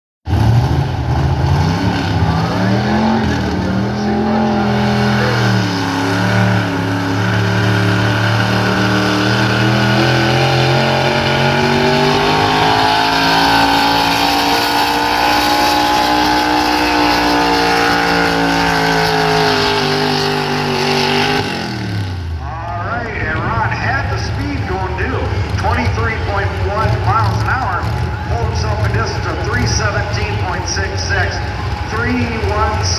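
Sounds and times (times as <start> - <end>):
pickup truck engine revving: 0.3 - 32.9.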